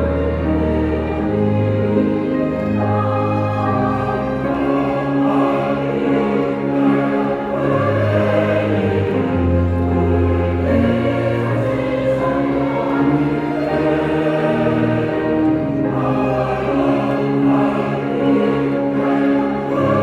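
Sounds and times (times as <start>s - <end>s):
church choir singing a hymn: 0.0s - 20.0s.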